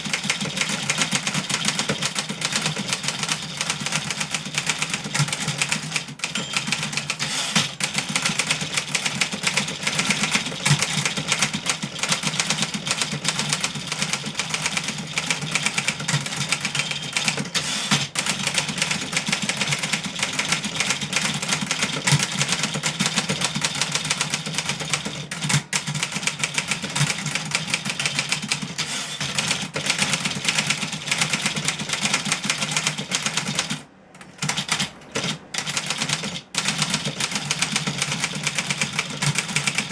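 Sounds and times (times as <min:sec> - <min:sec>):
manual typewriter keystrokes: 0:00.0 - 0:39.9.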